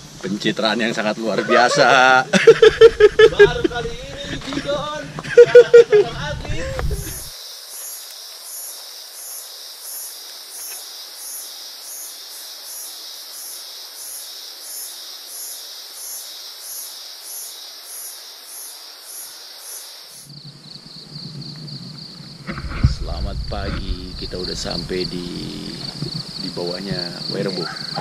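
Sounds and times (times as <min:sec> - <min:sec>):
high insect trill: 0:00.0 - 0:28.0
insect call pulsing: 0:00.0 - 0:28.0
steady hiss: 0:00.0 - 0:28.0.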